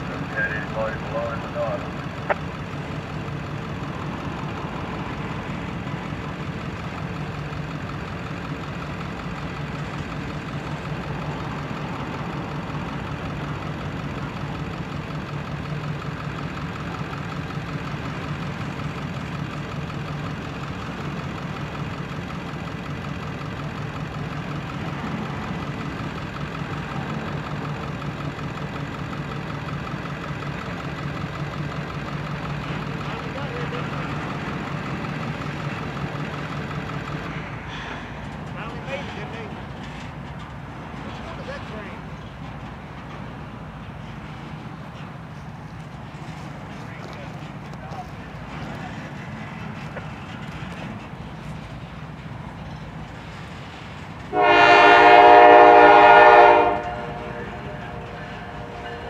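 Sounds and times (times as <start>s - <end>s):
diesel locomotive engines droning: 0.0s - 59.0s
freight train rolling by: 0.0s - 59.0s.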